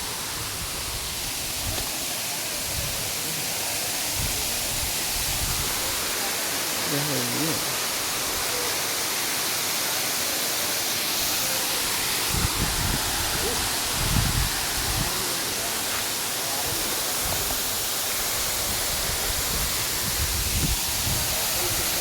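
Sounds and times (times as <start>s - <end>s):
rush of falling water: 0.0s - 22.0s.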